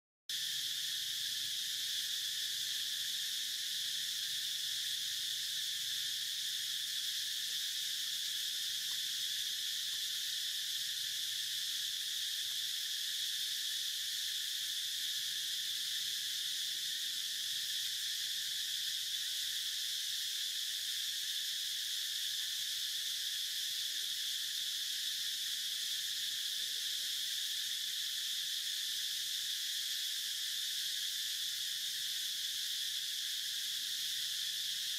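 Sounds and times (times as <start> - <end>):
insect chorus drone: 0.3 - 34.9.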